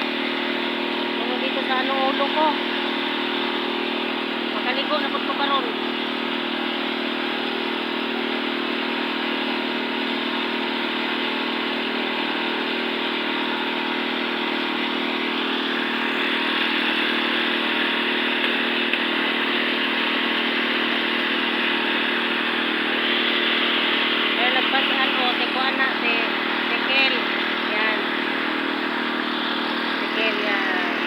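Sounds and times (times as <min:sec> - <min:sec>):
concrete mixer engine running: 0:00.0 - 0:31.0.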